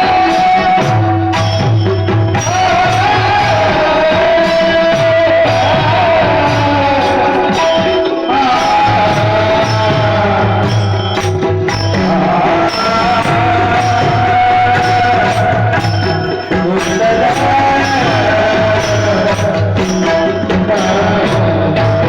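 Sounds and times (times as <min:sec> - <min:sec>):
person singing devotional melody: 0:00.0 - 0:22.0
steady drum beats: 0:00.0 - 0:22.0.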